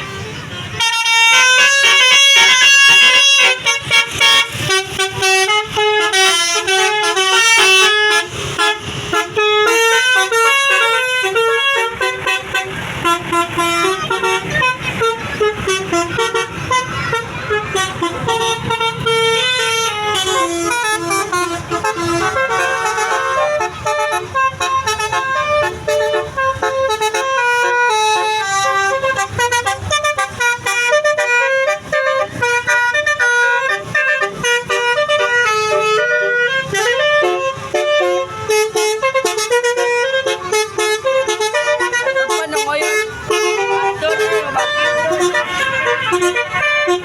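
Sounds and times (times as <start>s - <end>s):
bus musical air horns: 0.0s - 47.0s
low engine rumble: 0.0s - 47.0s.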